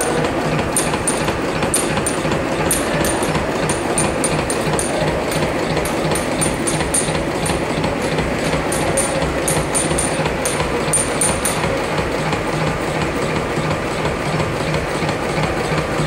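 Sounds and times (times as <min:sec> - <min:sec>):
machine rhythmic mechanical clatter: 0:00.0 - 0:16.0.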